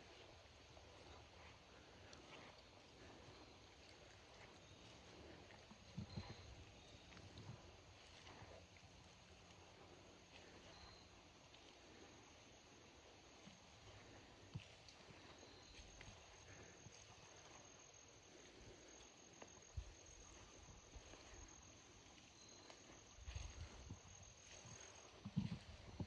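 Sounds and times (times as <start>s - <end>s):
insects trilling: 3.0s - 26.0s.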